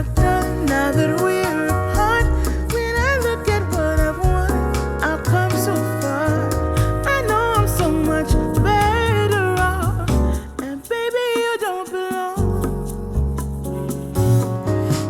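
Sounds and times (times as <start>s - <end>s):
pop soul song: 0.0s - 15.0s.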